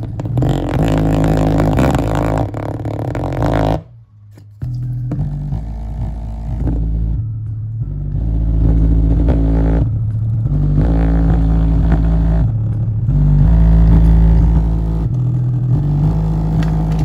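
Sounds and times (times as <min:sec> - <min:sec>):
distorted bass tones from speaker: 0:00.0 - 0:17.0.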